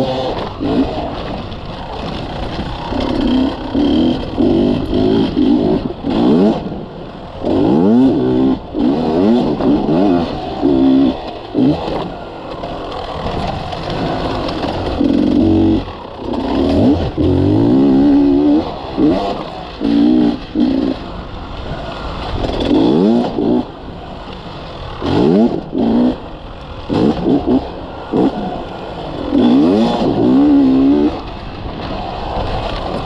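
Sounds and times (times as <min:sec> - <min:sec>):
two-stroke dirt bike engine revving: 0:00.0 - 0:33.0.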